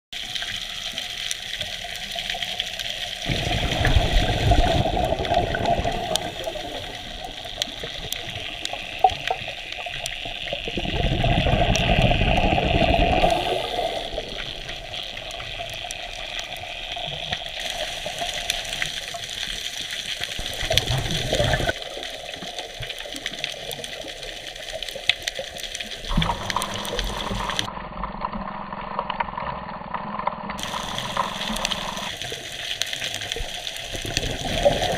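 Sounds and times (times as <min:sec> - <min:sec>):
exhaled bubbles rushing underwater: 0:00.2 - 0:28.8, 0:30.6 - 0:34.9
crackling clicks: 0:00.2 - 0:34.9
steady hiss: 0:00.3 - 0:27.7, 0:30.6 - 0:34.9.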